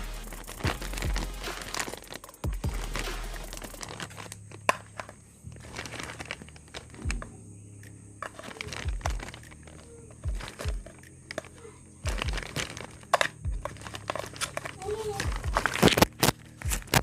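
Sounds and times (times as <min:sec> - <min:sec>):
packaging crinkling: 0:00.0 - 0:07.3, 0:08.2 - 0:17.0.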